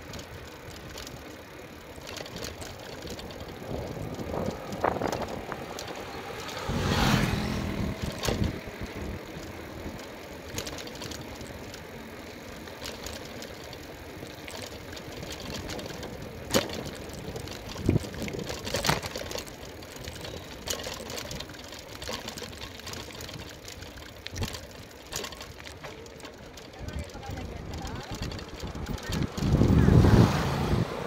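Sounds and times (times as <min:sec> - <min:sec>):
bike knocks and rattles: 0:00.0 - 0:30.4
wind and tyre rumble: 0:00.0 - 0:31.0.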